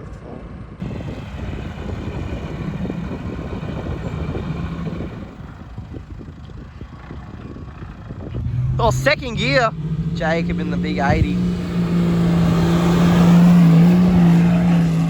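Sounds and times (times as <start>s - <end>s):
vehicle engine running hard: 0.1s - 15.0s.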